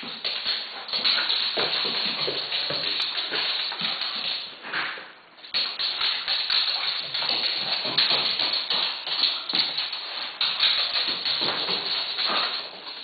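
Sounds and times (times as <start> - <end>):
dog claws tapping on wooden floor: 0.0 - 4.5, 5.5 - 13.0.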